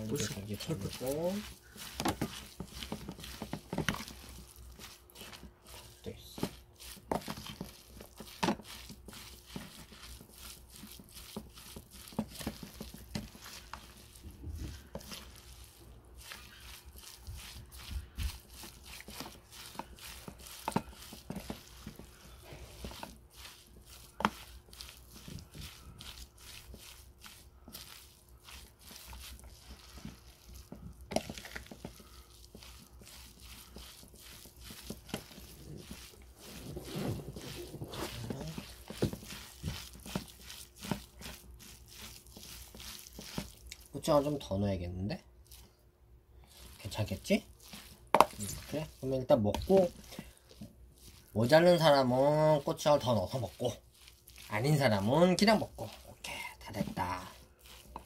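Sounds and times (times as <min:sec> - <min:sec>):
hand mixing rice in a bowl: 0:00.0 - 0:58.0.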